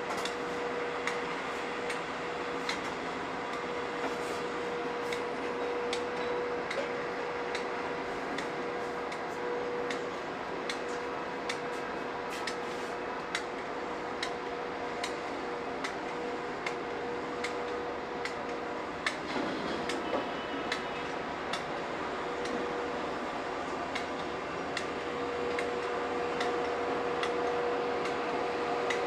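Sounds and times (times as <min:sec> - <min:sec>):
heavy machinery running: 0:00.0 - 0:29.0.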